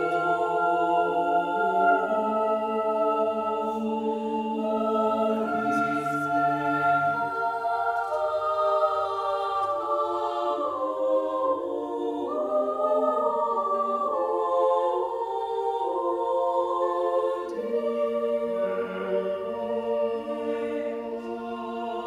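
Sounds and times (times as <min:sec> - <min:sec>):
choir singing sacred music: 0:00.0 - 0:22.0.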